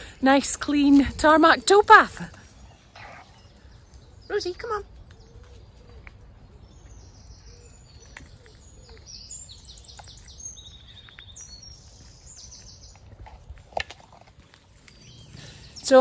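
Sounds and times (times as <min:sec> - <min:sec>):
small birds chirping and trilling: 0:00.0 - 0:16.0.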